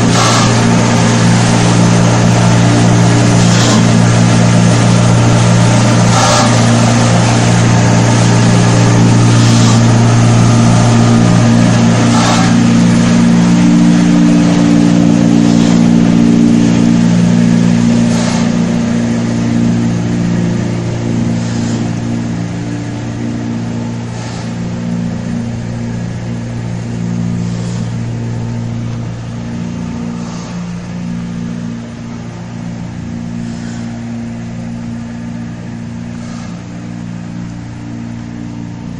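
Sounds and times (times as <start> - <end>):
machinery humming: 0.0 - 38.9.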